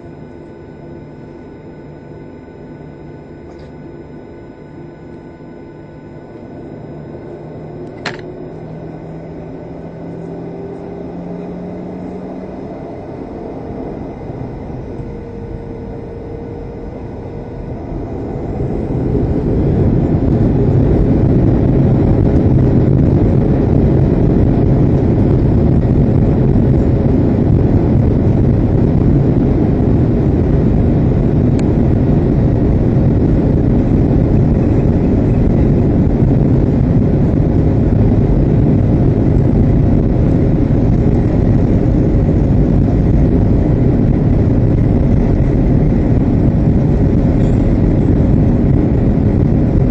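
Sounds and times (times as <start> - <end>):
jet engines from inside cabin: 0.0 - 49.9.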